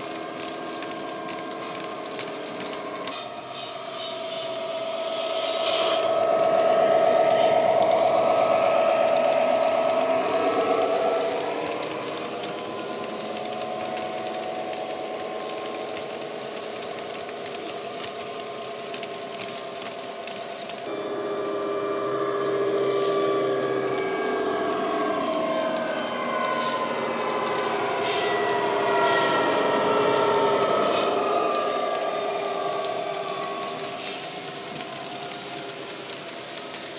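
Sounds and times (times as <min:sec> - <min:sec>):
model locomotive diesel engine sound: 0:00.0 - 0:36.9.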